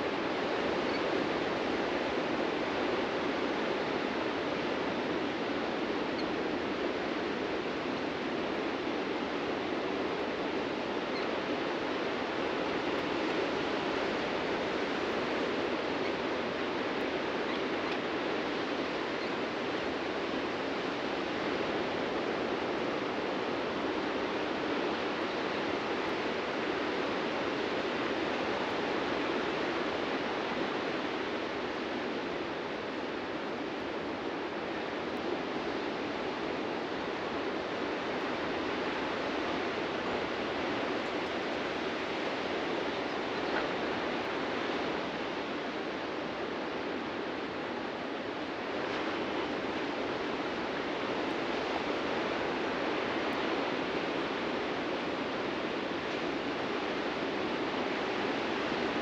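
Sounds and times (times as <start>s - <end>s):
ocean surf breaking on a beach: 0.0s - 59.0s.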